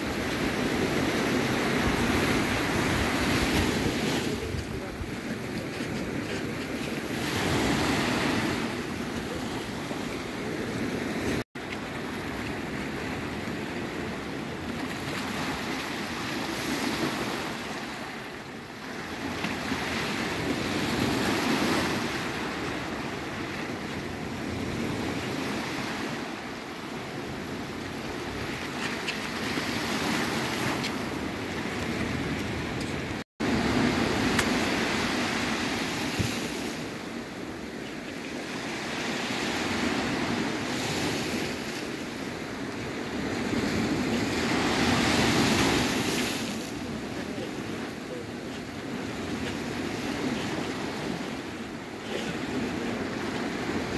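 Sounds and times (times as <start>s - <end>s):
waves washing over rocks: 0.0s - 37.8s, 38.5s - 53.9s.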